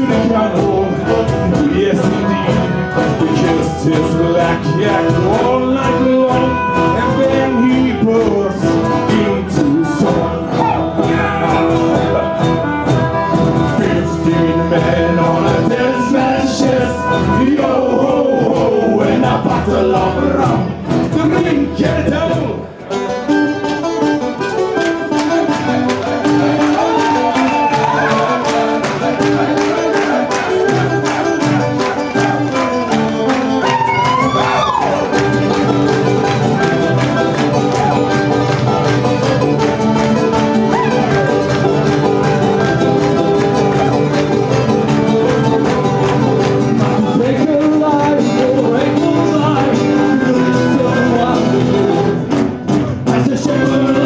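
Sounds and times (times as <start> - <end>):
frame drum beat: 0.0 - 22.6, 24.8 - 54.0
strummed acoustic guitars: 0.0 - 54.0.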